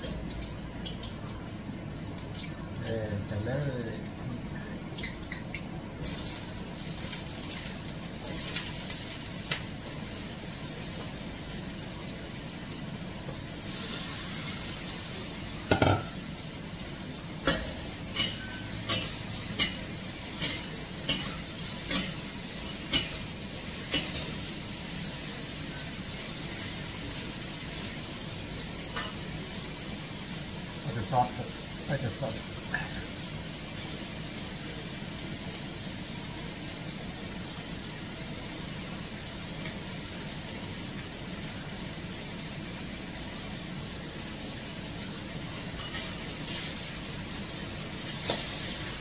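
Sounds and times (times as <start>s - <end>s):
mushrooms sizzling in a wok: 6.0s - 49.0s.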